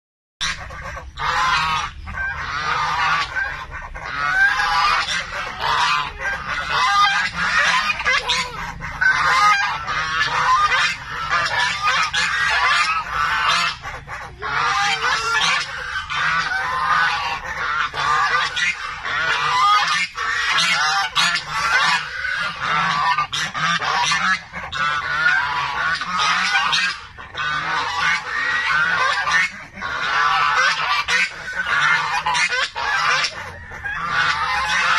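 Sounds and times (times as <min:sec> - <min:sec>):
geese honking: 0:00.4 - 0:34.9.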